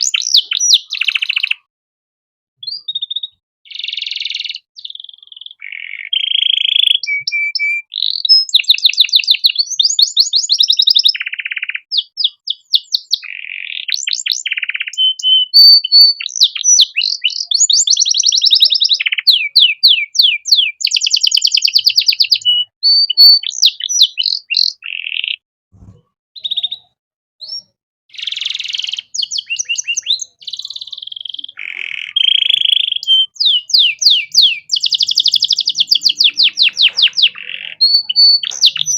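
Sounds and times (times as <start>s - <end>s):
canary singing: 0.0s - 1.7s, 2.6s - 25.4s, 26.4s - 38.9s.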